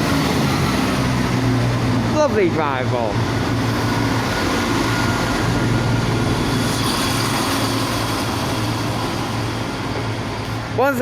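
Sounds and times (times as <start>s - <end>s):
diesel train pulling away: 0.0s - 11.0s.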